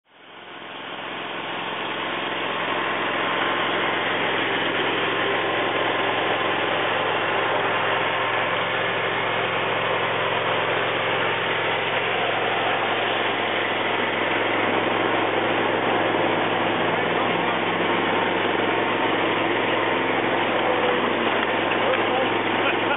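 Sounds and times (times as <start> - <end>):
small engine idling: 0.0 - 22.9.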